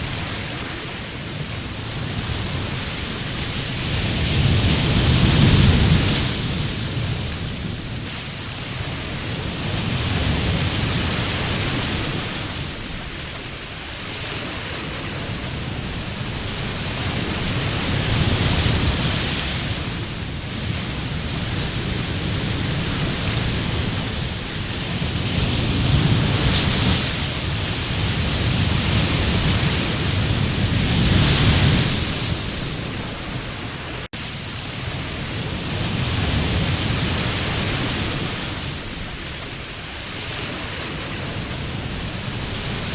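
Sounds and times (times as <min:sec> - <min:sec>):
surf breaking on sandy beach: 0:00.0 - 0:42.9.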